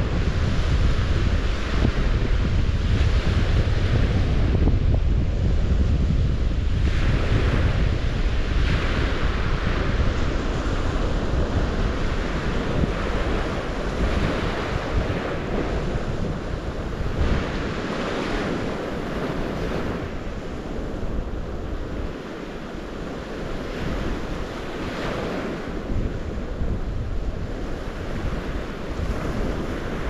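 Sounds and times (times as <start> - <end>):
waves washing onto shore: 0.0 - 30.0
wind buffeting microphone: 0.0 - 30.0.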